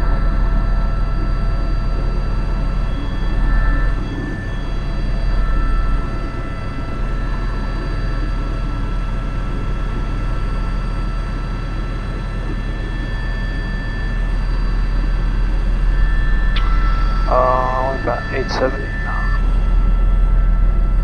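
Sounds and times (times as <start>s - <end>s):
helicopter turbine whine: 0.0s - 21.0s.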